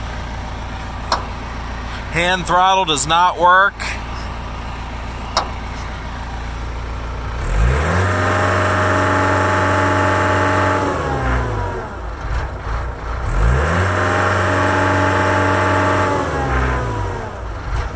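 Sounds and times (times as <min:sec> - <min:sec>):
diesel engine idling and revving: 0:00.0 - 0:17.9.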